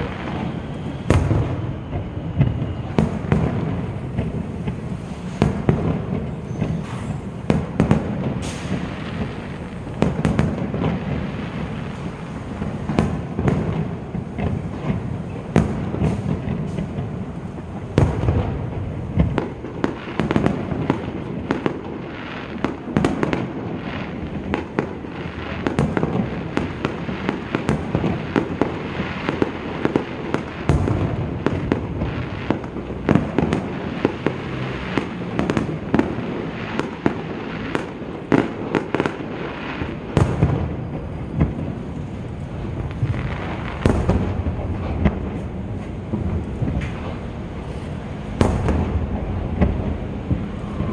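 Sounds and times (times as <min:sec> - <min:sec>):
fireworks bangs and crackles: 0:00.0 - 0:50.9
heavy low firework booms: 0:00.0 - 0:50.9.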